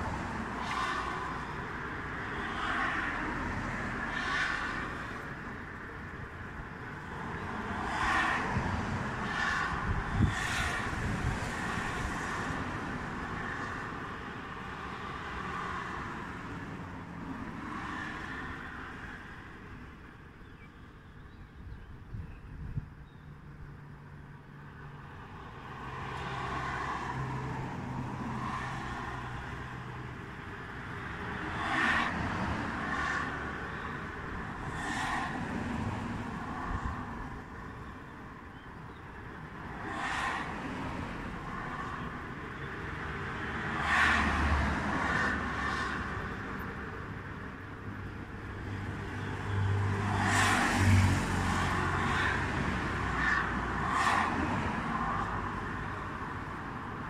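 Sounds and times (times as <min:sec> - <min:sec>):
cars passing: 0:00.0 - 0:20.4, 0:23.4 - 0:57.0
traffic rumble: 0:00.0 - 0:57.0.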